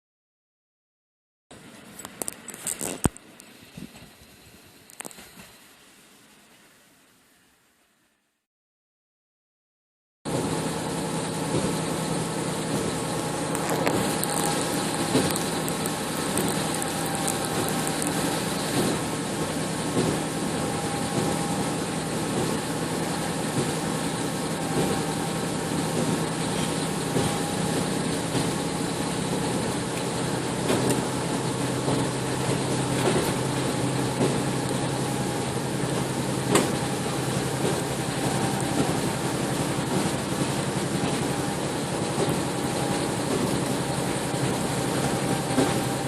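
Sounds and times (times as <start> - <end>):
vehicle interior hum and rumble: 1.6 - 5.7, 10.3 - 46.0.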